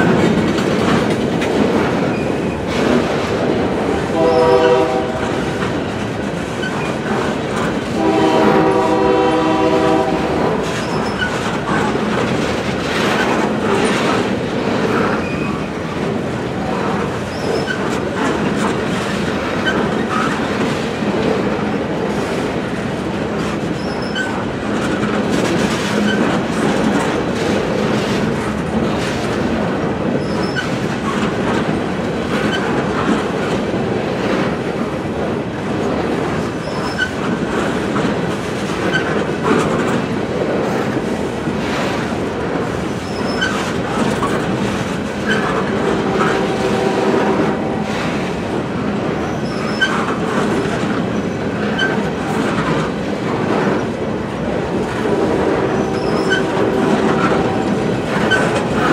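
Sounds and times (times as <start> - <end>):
wheels clicking over rail joints: 0.0 - 8.9, 9.5 - 58.9
freight train rolling past: 0.0 - 58.9.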